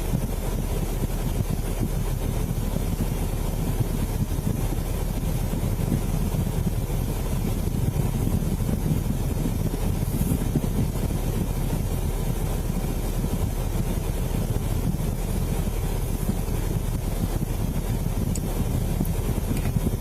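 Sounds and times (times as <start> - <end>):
vehicle engine rumble: 0.0 - 20.0
road noise: 3.4 - 20.0.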